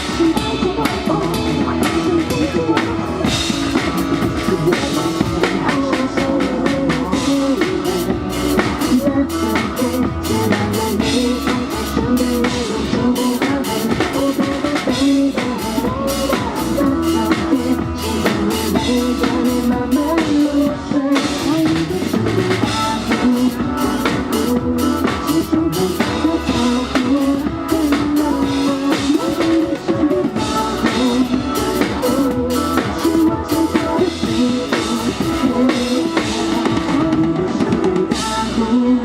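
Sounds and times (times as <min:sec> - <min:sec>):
drum kit beat: 0:00.0 - 0:39.0
live band music: 0:00.0 - 0:39.0.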